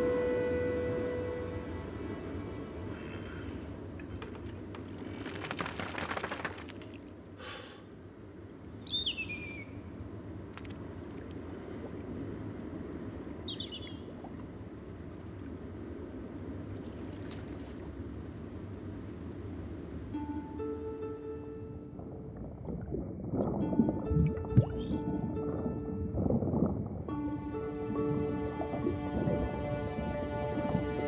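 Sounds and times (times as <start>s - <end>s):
sea and wind wash: 0.0s - 5.6s, 6.3s - 31.0s.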